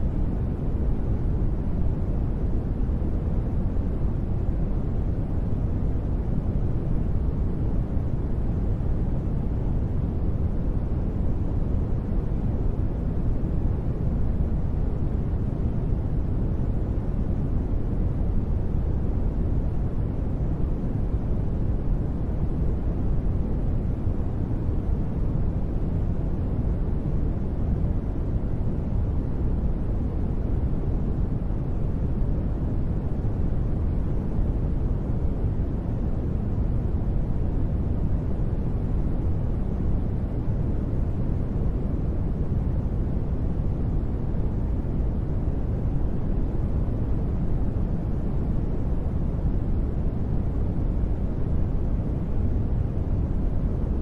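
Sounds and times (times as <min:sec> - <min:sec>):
deep rumbling white noise: 0:00.0 - 0:54.0.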